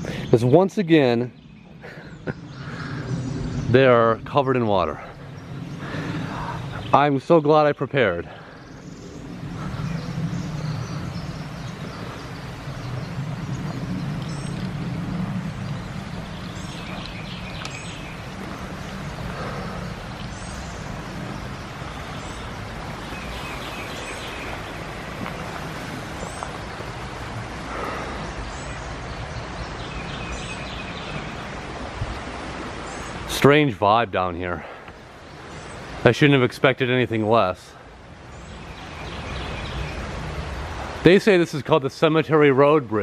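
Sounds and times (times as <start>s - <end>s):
creek rushing: 0.0s - 43.0s
small birds chirping: 0.0s - 43.0s.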